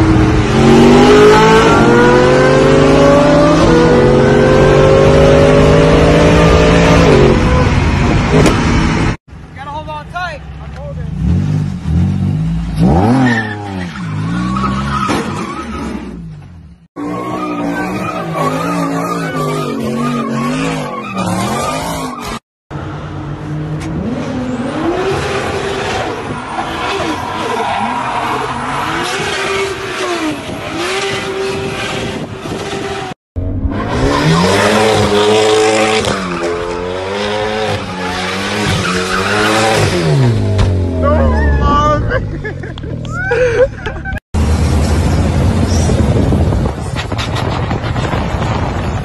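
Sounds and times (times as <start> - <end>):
car engines revving: 0.0 - 9.2, 10.5 - 48.8.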